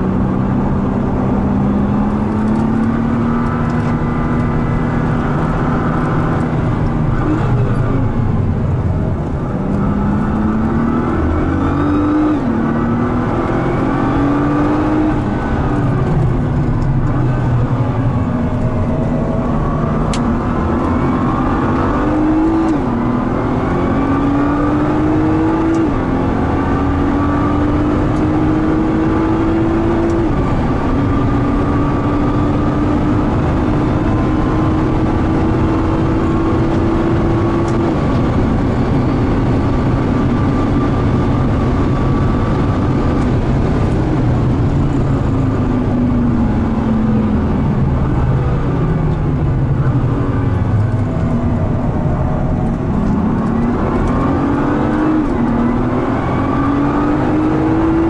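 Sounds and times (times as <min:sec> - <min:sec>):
car engine accelerating and upshifting: 0:00.0 - 0:58.0.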